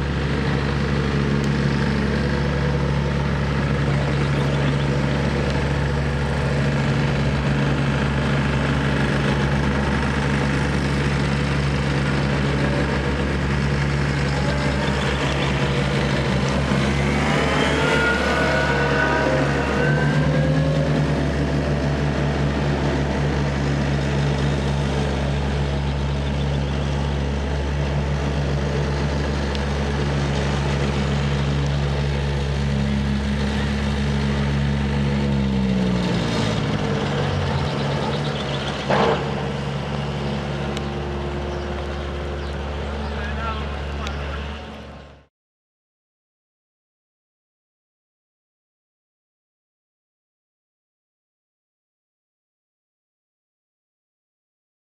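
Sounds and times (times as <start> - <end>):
hydraulic whine: 0.0 - 45.2
diesel engine running: 0.0 - 45.3.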